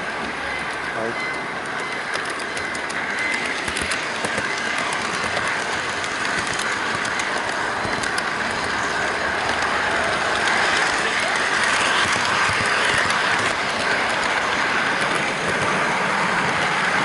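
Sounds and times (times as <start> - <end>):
model train rolling whir: 0.0 - 17.0
wheels clicking over rail joints: 0.0 - 17.0.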